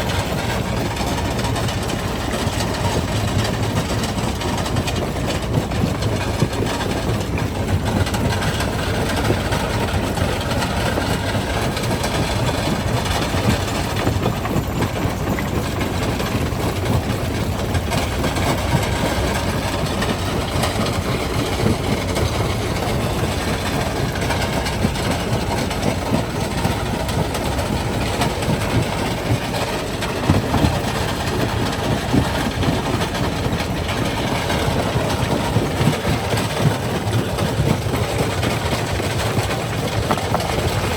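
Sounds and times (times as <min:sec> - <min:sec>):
rock crusher rumbling: 0:00.0 - 0:40.9.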